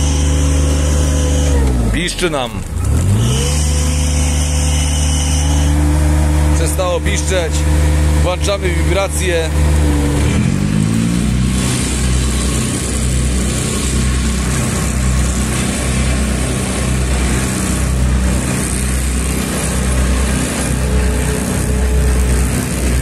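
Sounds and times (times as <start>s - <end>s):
diesel engine drone with throb: 0.0s - 23.0s.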